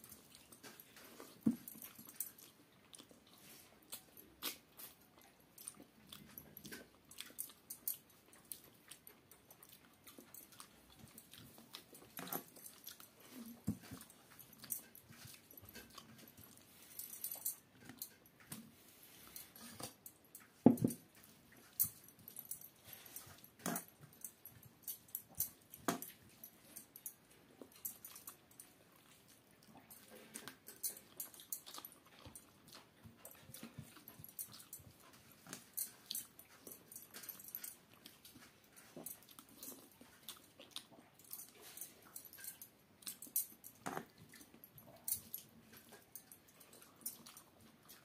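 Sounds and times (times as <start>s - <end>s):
wet chewing and lip-smacking: 0.0s - 48.0s.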